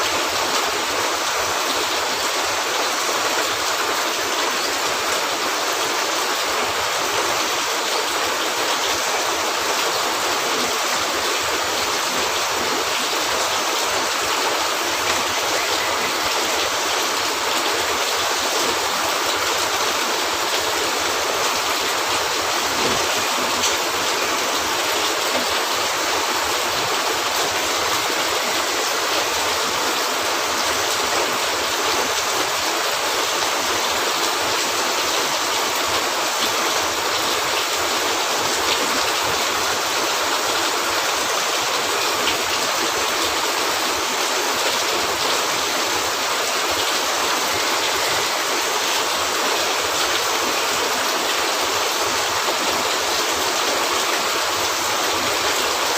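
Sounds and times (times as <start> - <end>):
heavy rain on a roof: 0.0 - 55.9.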